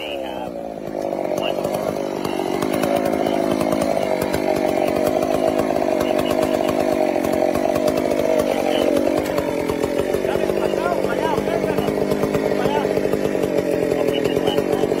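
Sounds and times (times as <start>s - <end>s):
chainsaw running: 0.0s - 15.0s.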